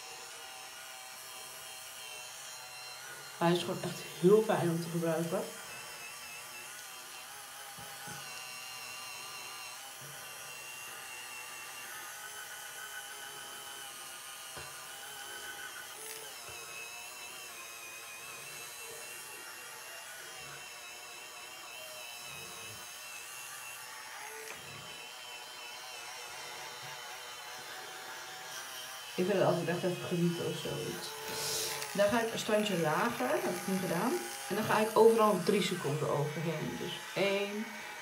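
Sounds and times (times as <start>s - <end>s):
facial cleansing brush whirring: 0.0s - 38.0s.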